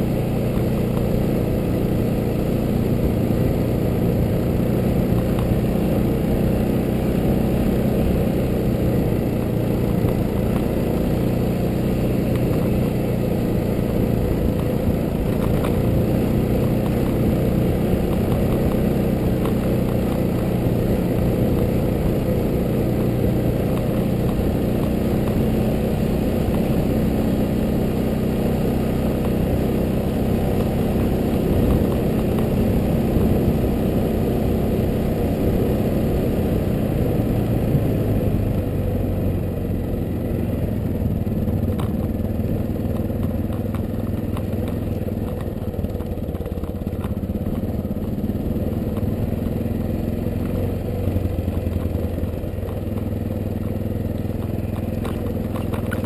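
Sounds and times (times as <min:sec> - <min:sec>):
motorcycle engine running: 0:00.0 - 0:56.0
wind: 0:00.0 - 0:56.0.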